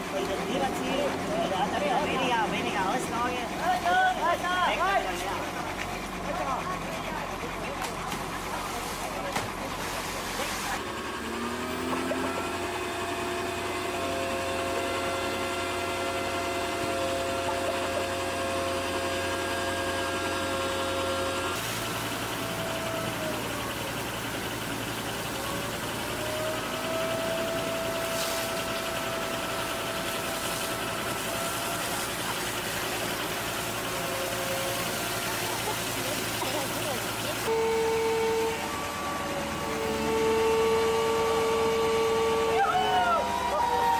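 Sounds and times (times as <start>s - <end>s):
heavy equipment engine running: 0.0s - 43.9s.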